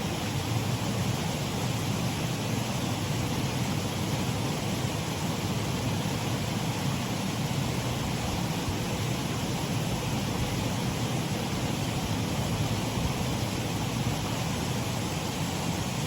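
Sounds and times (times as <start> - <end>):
water rushing over waterfall: 0.0 - 16.0.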